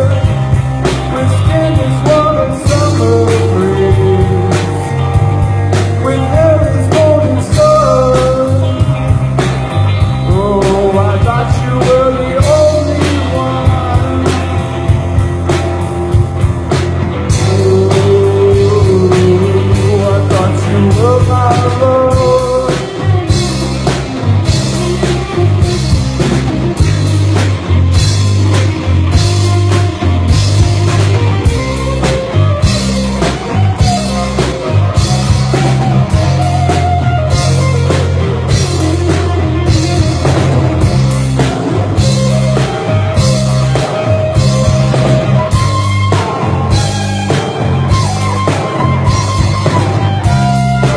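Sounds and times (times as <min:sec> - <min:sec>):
bass guitar: 0:00.0 - 0:50.9
drum kit beat: 0:00.0 - 0:50.9
electric guitar lead line: 0:00.0 - 0:50.9.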